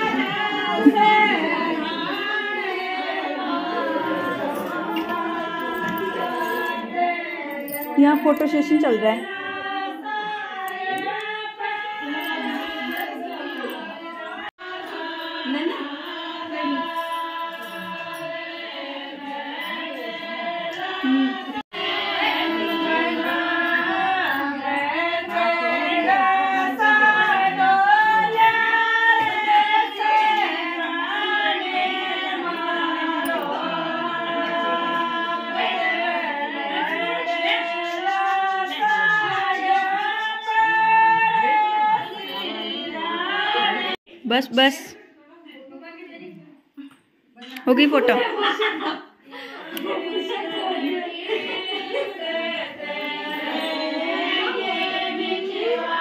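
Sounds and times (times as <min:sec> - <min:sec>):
women singing folk song: 0:00.0 - 0:44.2, 0:47.5 - 0:56.0.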